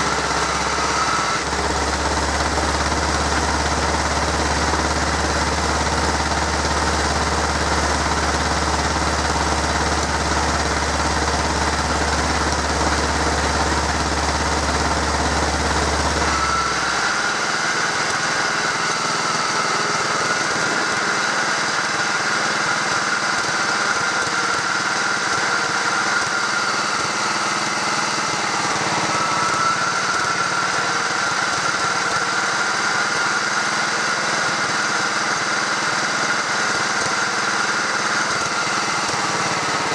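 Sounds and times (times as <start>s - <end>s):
roller engine running: 0.0s - 39.9s.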